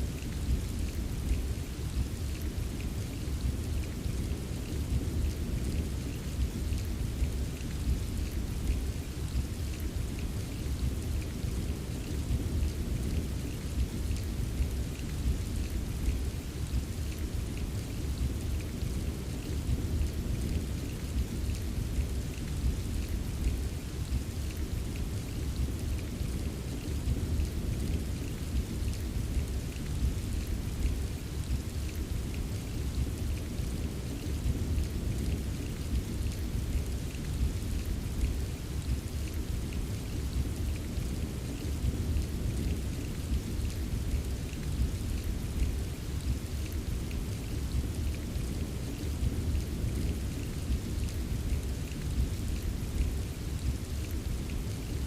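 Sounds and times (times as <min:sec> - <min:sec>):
steady rainfall: 0:00.0 - 0:55.0
low rumble of thunder: 0:00.2 - 0:54.8.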